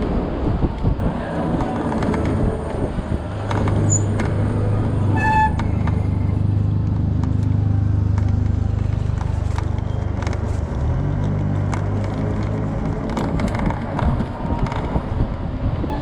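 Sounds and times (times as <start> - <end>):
vehicle engine running: 1.0 - 15.2.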